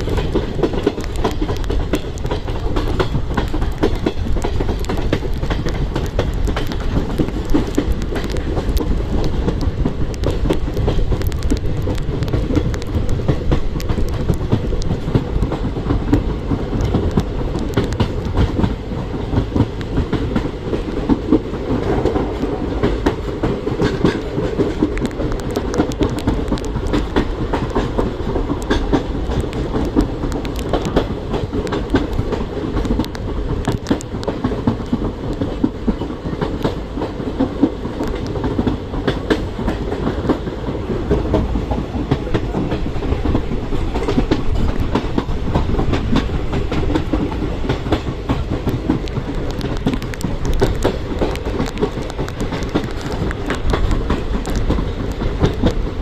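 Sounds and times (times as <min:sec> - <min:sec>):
train coach rumbling: 0:00.0 - 0:56.0
wheels clicking over rails: 0:00.0 - 0:56.0.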